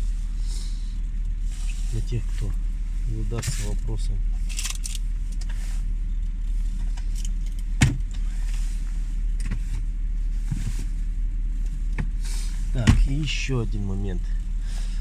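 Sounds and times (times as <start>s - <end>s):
engine ticking clicks: 0.0s - 10.6s, 11.5s - 15.0s
car engine idling: 0.0s - 15.0s.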